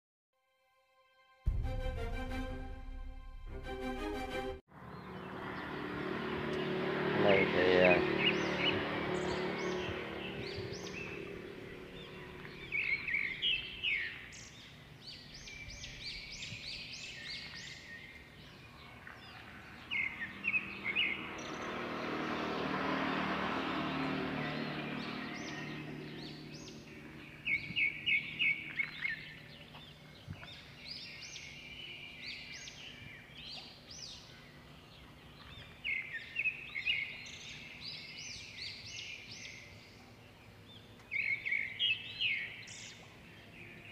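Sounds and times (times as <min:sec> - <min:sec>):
outdoor background noise: 0:04.7 - 0:43.9
birds chirping: 0:04.8 - 0:43.9.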